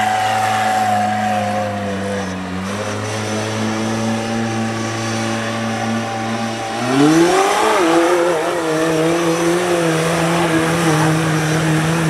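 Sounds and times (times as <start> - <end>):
buggy engine running hard: 0.0 - 12.0.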